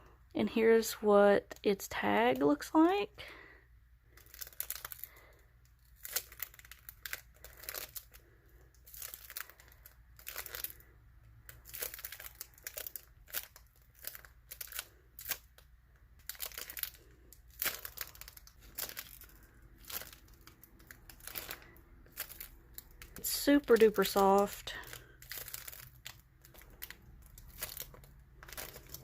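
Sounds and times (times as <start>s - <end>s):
squishy toy crinkling: 4.1s - 29.0s.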